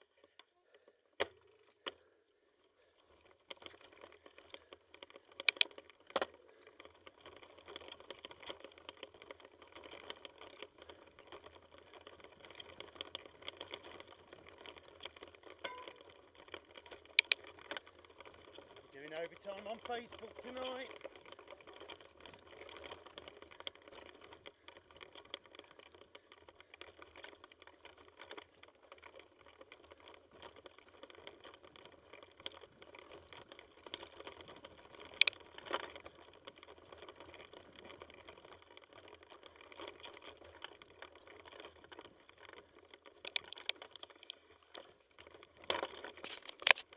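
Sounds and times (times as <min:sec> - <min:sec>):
bicycle tyres on rough trail: 0:00.0 - 0:46.9
small clicks: 0:03.3 - 0:46.9.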